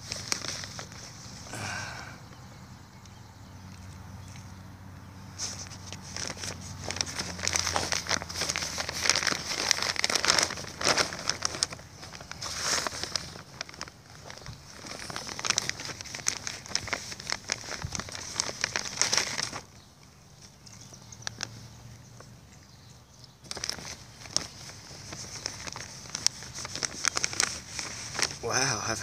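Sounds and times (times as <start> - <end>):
plastic bag crinkling: 0.0 - 2.4, 5.4 - 29.0.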